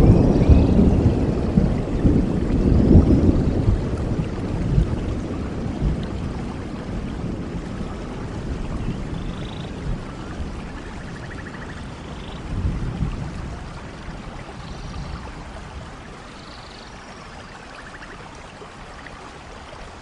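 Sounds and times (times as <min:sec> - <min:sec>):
low thunder rumble: 0:00.0 - 0:16.3
rain falling: 0:00.0 - 0:20.0.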